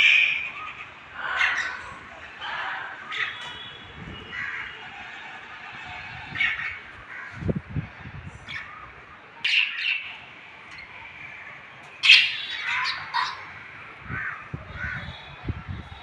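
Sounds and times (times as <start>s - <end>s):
lovebirds squawking and chirping: 0.0s - 16.0s.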